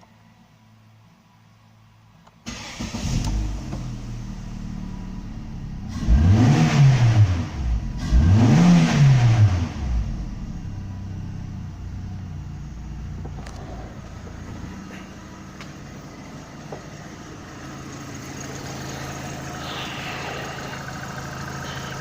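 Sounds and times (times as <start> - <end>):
car engine starting and revving: 2.4 - 22.0.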